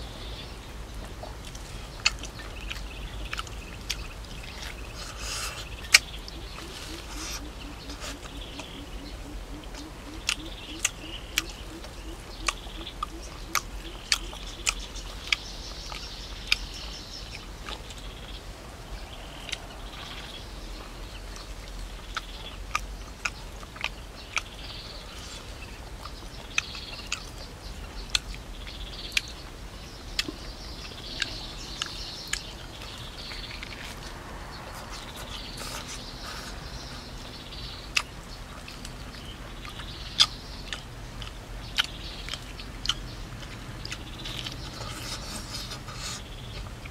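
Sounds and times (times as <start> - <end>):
birds chirping: 0.0 - 46.9
man chewing with smacking: 0.8 - 18.4, 19.0 - 46.9.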